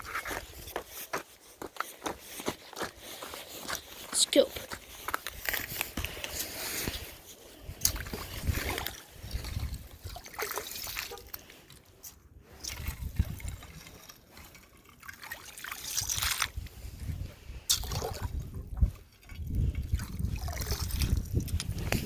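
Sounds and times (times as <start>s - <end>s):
water dribbling and sloshing: 3.3s - 22.0s.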